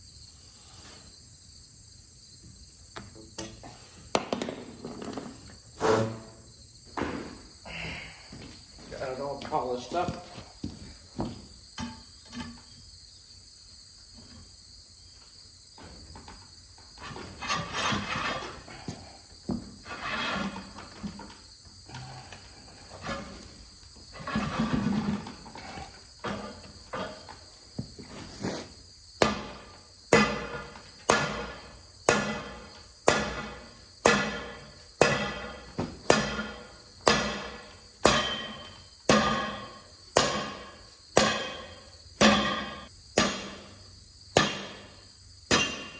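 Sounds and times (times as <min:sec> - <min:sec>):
light metal knocks and scrapes: 0:03.0 - 0:07.5, 0:08.4 - 0:12.9, 0:15.8 - 0:43.8.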